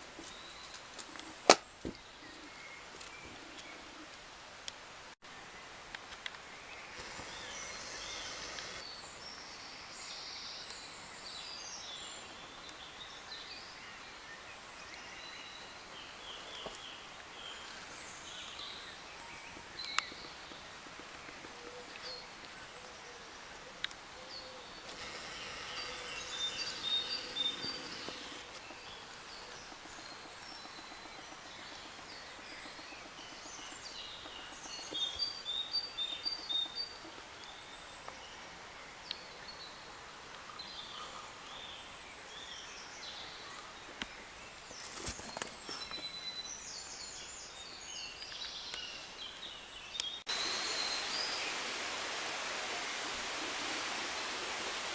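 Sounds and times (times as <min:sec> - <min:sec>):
outdoor background hiss: 0:00.0 - 0:54.9
small birds chirping: 0:05.4 - 0:54.9.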